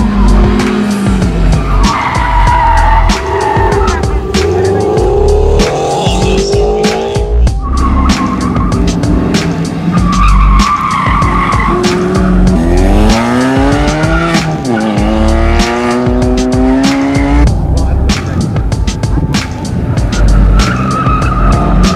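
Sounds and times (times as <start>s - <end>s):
tires squealing: 0.0s - 17.5s, 19.8s - 21.9s
car engines revving: 0.0s - 21.9s.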